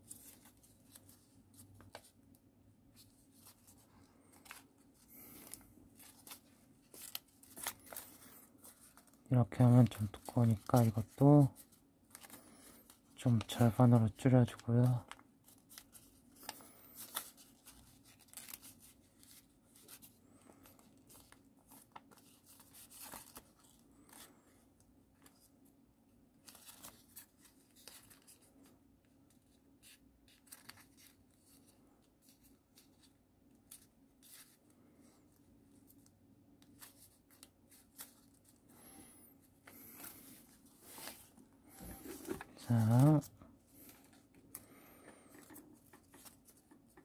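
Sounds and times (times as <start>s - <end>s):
paper rustling and crinkling: 0.0s - 2.3s, 2.9s - 25.5s, 26.4s - 47.0s.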